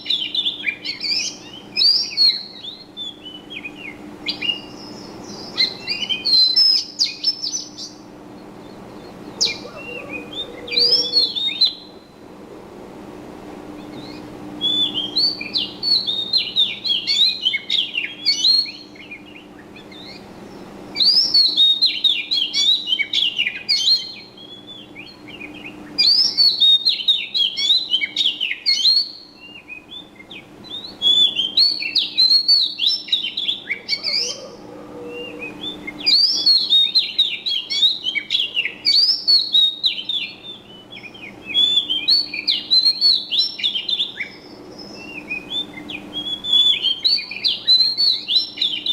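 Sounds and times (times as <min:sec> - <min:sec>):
small bird twittering song: 0:00.0 - 0:12.2, 0:13.8 - 0:48.9.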